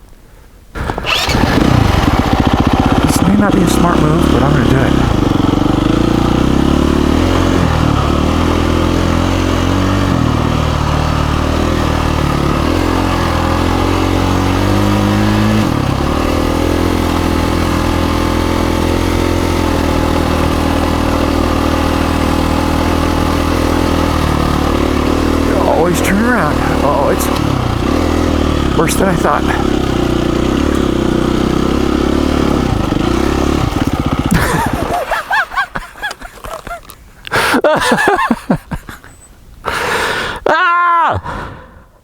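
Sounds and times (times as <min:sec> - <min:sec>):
dirt bike engine revving: 0:00.8 - 0:40.2.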